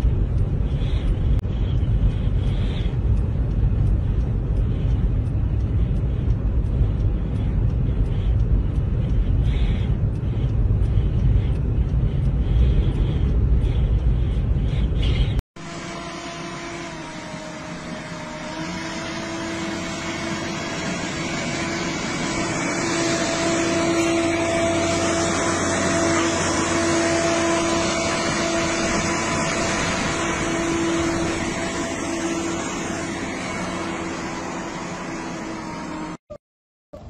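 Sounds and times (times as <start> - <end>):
rushing noise: 0.0 - 36.2
vehicle engine humming: 0.0 - 36.2.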